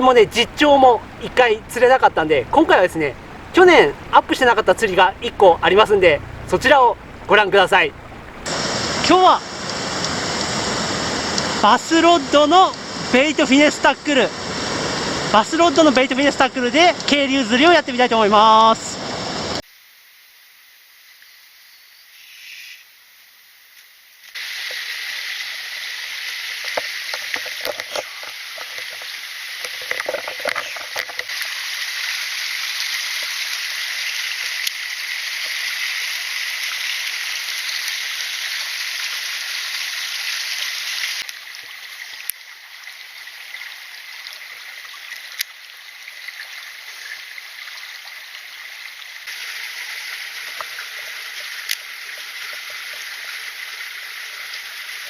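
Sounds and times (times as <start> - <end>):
stream water rushing: 0.0 - 19.6, 24.4 - 55.0.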